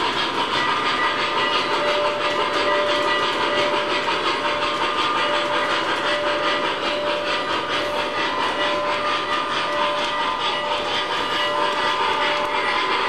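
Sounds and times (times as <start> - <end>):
model train wheels rattling on track: 0.0 - 13.0
steam chuffing and hiss: 0.0 - 13.0.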